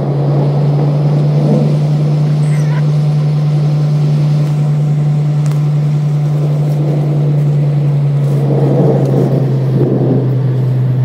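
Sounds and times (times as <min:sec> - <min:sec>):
strong wind: 0:00.0 - 0:11.0
thunder rumble: 0:00.0 - 0:11.0.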